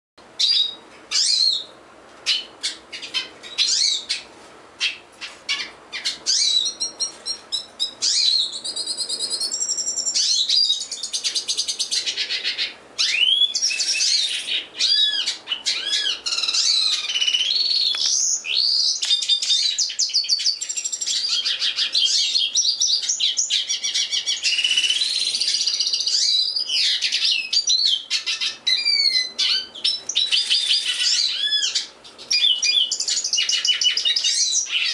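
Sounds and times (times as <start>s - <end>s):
bird whistles and trills: 0.4s - 1.7s, 2.3s - 34.9s.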